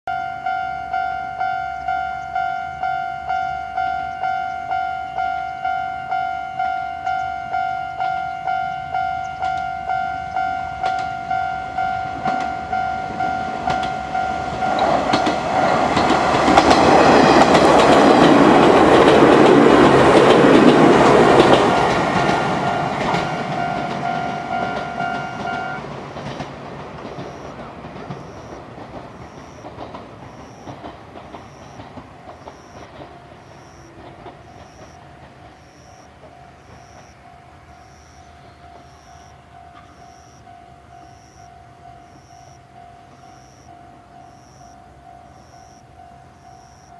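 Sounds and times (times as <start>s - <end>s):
level crossing alarm ringing: 0.1s - 26.0s, 27.0s - 46.9s
electric train passing: 0.1s - 46.9s.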